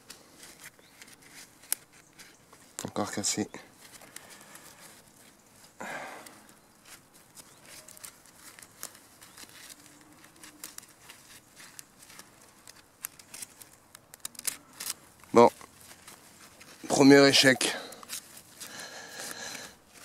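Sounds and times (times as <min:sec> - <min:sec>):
vine stems crackling and rustling: 0:00.0 - 0:20.0.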